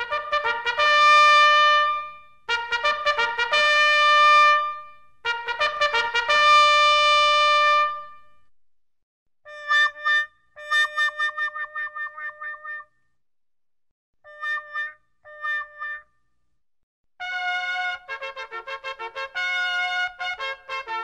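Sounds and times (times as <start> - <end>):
solo trumpet fanfare: 0.0 - 8.3, 9.5 - 12.8, 14.3 - 16.0, 17.2 - 21.0.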